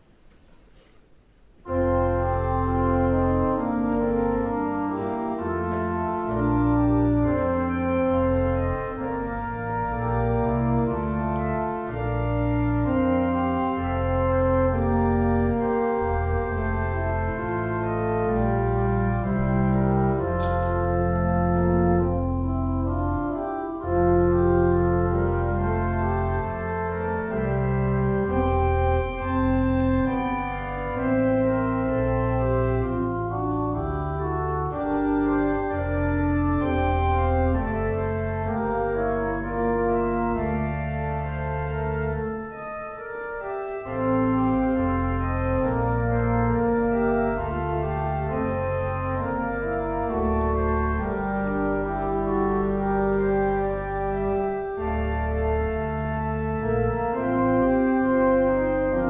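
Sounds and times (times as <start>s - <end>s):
church organ playing chords: 1.6s - 59.0s.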